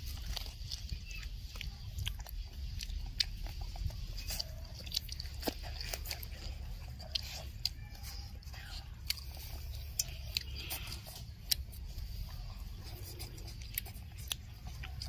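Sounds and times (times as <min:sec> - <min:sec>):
children chewing fried chicken: 0:00.0 - 0:15.0.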